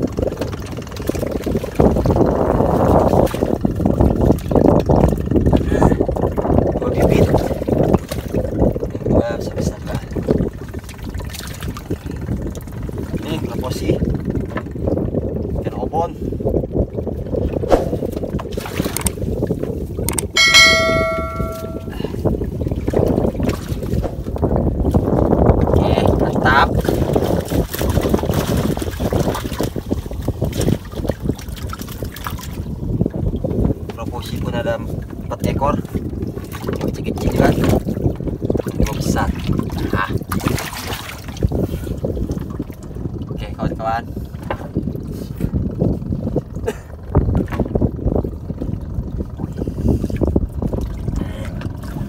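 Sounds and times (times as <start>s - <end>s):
water splashing and sloshing: 0.0s - 52.0s
wind on microphone: 0.0s - 52.0s.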